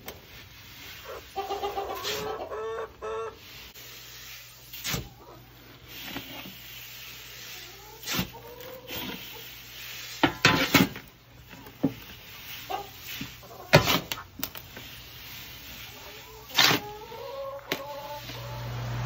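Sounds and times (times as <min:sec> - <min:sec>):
grain rustling and scraping: 0:00.0 - 0:02.4, 0:03.2 - 0:18.5.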